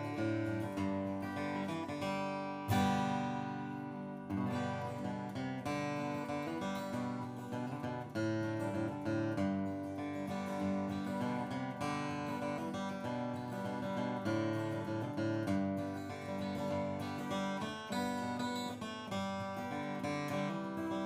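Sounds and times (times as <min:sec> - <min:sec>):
acoustic guitar strumming and picking: 0:00.0 - 0:21.0.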